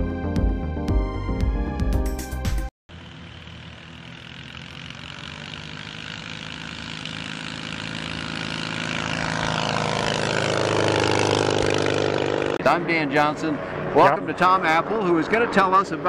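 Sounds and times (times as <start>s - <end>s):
light aircraft flying past: 3.0s - 16.0s.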